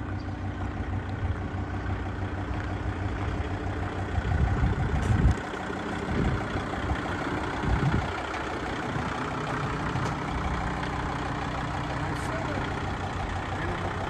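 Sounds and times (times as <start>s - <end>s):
diesel tractor engine idling: 0.0s - 14.0s.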